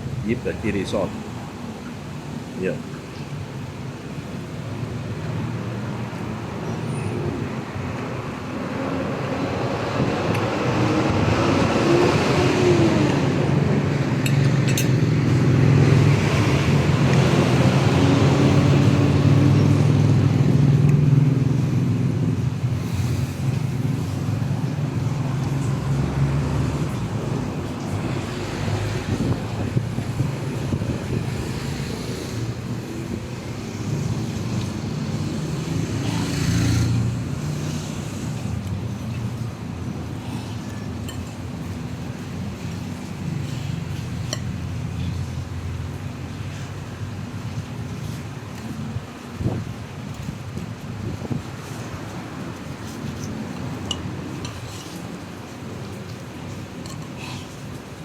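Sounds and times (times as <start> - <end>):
steady traffic hum: 0.0 - 58.0.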